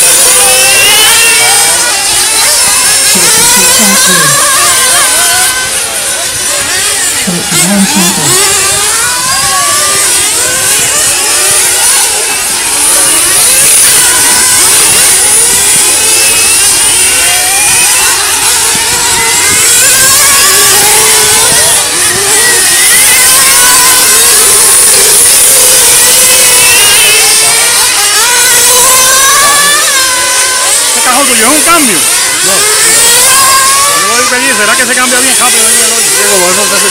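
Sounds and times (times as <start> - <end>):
rc car engines whining: 0.0 - 36.9.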